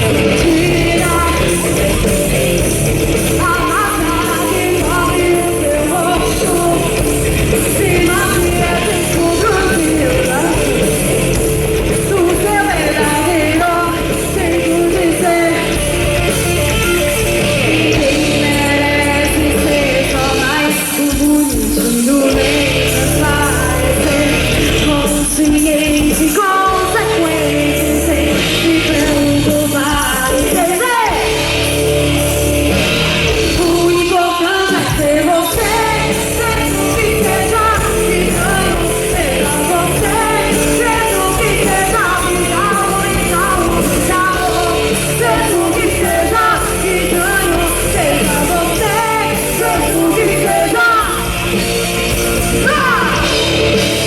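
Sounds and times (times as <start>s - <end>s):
lead vocal: 0.0s - 54.0s
rock band playing live: 0.0s - 54.0s.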